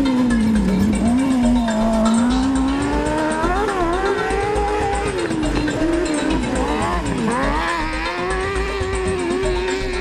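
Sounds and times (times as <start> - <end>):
buggy engine revving hard: 0.0 - 10.0.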